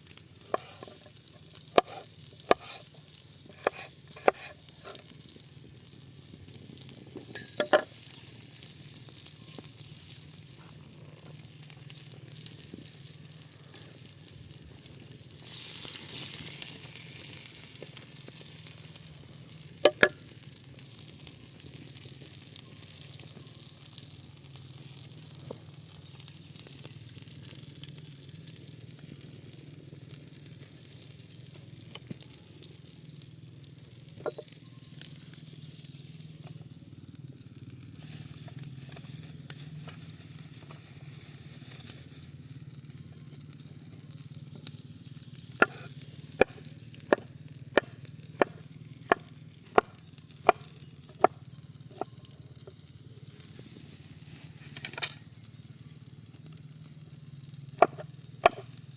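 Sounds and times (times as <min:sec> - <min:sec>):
food sizzling in a pan: 0:00.0 - 0:58.9.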